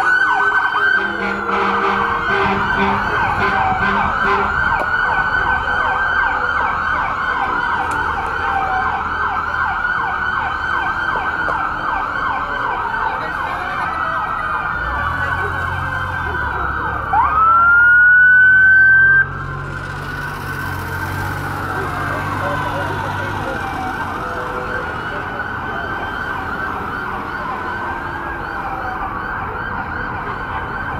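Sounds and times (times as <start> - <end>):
yelping emergency sirens: 0.0 - 30.9.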